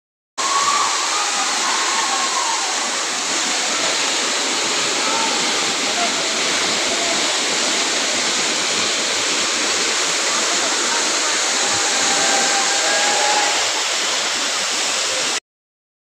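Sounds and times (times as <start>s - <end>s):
waterfall rushing: 0.4s - 15.4s.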